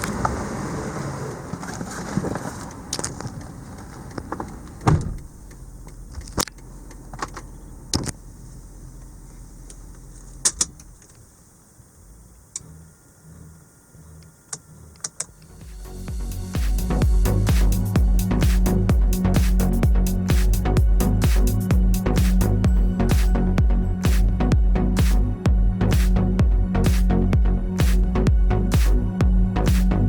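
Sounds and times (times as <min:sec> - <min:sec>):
low car engine rumble: 0:00.0 - 0:30.0.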